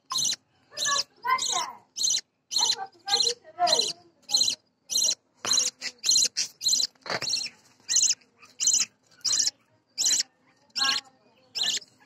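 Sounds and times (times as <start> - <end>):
budgerigar chicks calling: 0.0 - 12.0.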